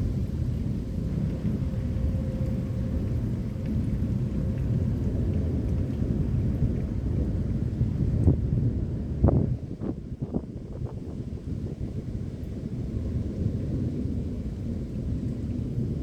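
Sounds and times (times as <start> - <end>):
rain: 0.0 - 16.0.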